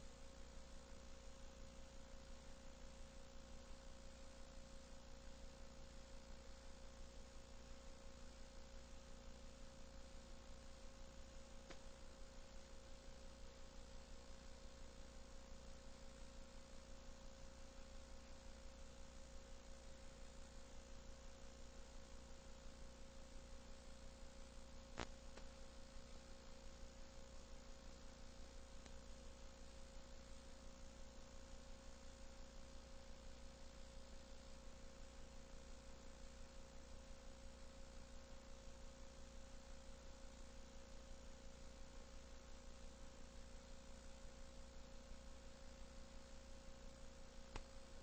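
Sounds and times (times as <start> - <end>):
faint electrical hum and hiss: 0.0 - 48.0.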